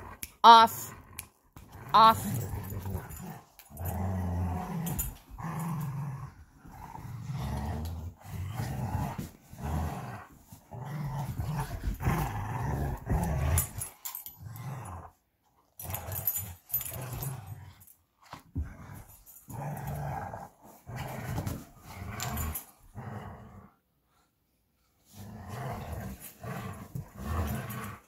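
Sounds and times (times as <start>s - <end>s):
dog growling in play: 0.0s - 24.2s, 25.0s - 28.0s.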